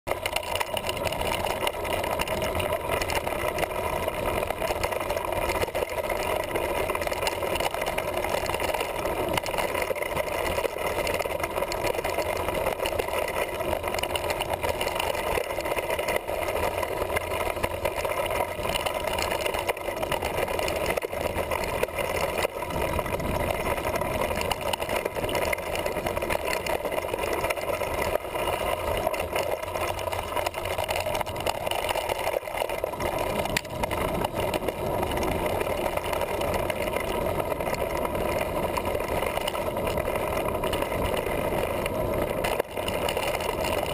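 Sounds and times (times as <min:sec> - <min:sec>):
bike tyres rumbling over dirt: 0:00.1 - 0:43.9
wind noise on microphone: 0:00.3 - 0:43.9.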